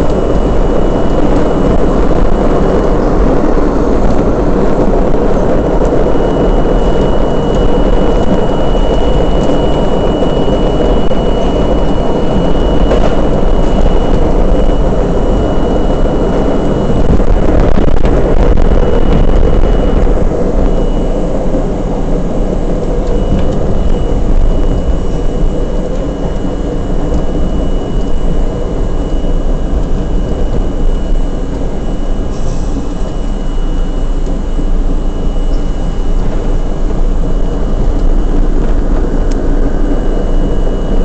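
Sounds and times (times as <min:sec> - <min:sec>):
subway wheels rumbling on rails: 0:00.0 - 0:41.0
thin high whine: 0:00.0 - 0:41.0.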